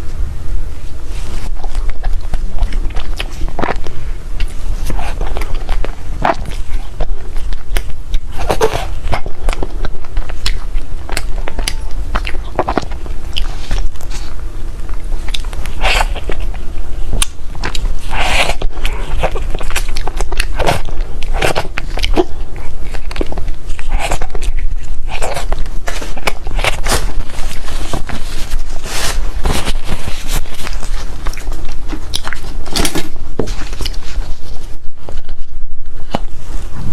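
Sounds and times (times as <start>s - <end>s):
low rumble: 0.0s - 36.9s
person biting and chewing: 0.9s - 36.7s.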